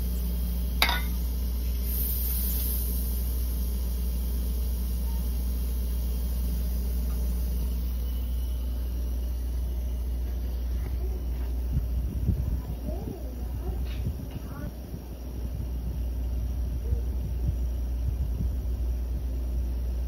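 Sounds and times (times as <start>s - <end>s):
refrigerator compressor humming: 0.0s - 20.0s.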